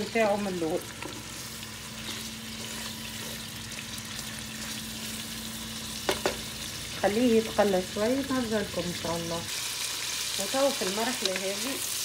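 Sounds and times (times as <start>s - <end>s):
meat and onion sizzling in oil: 0.0s - 12.0s.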